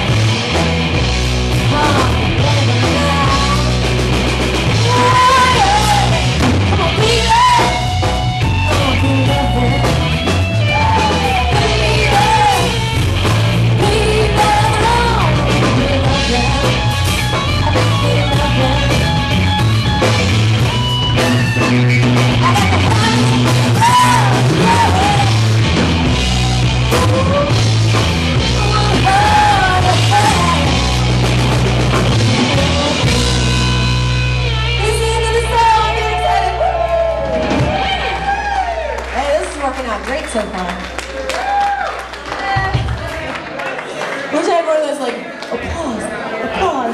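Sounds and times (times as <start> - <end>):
electric guitar lead: 0.0 - 42.1
drum kit: 0.0 - 43.2
bass guitar: 0.0 - 43.6.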